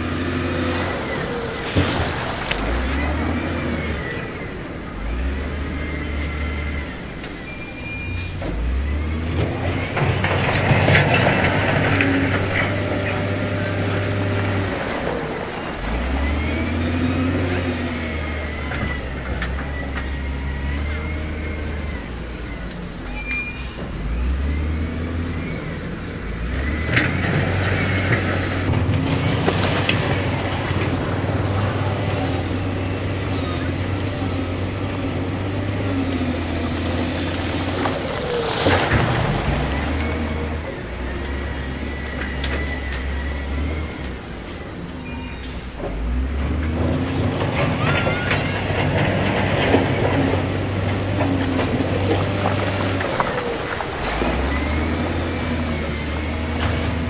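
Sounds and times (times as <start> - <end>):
heavy diesel engine rumbling: 0.0 - 57.0.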